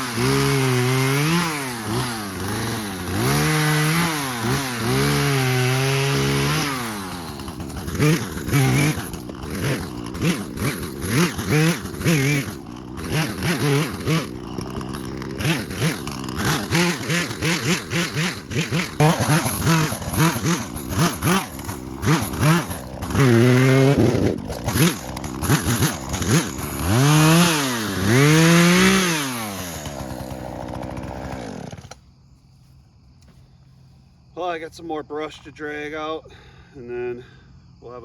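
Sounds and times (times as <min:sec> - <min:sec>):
chainsaw engine revving: 0:00.0 - 0:32.1.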